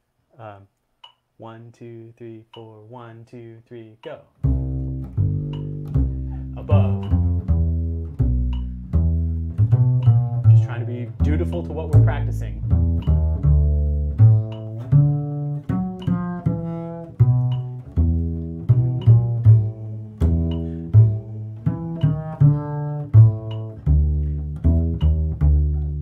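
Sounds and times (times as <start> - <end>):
double bass plucked: 2.5 - 26.0.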